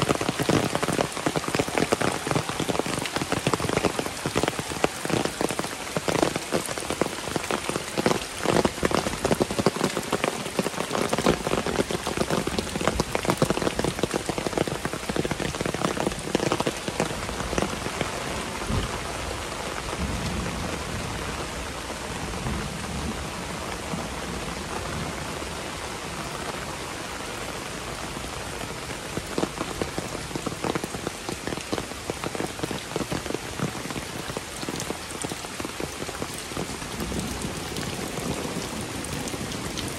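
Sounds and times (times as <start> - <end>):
heavy rain hiss: 0.0 - 39.9
raindrops striking close by: 0.0 - 39.9.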